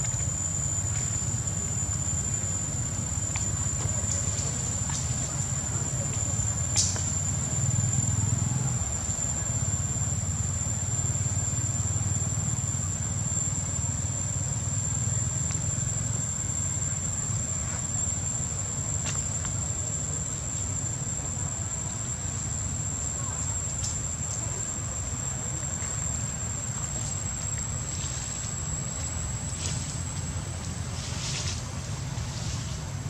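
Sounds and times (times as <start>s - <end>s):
high-pitched whine: 0.0s - 33.0s.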